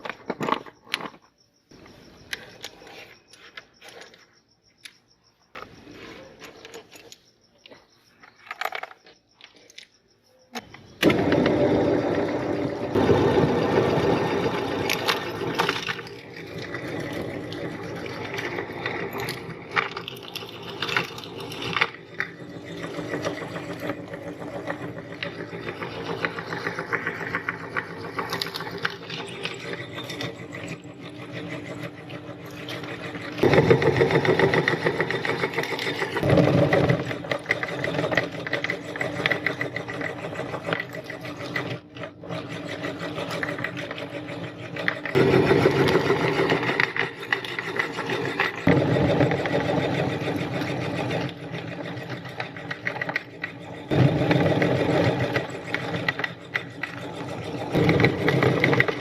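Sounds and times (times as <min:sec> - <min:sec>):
meat grinder motor: 0:11.0 - 0:59.0.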